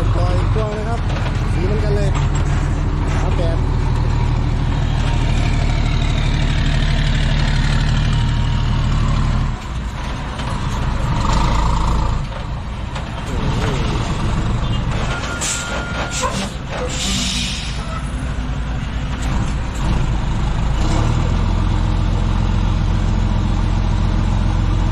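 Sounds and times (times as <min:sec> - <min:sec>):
heavy diesel truck engine running: 0:00.0 - 0:24.9.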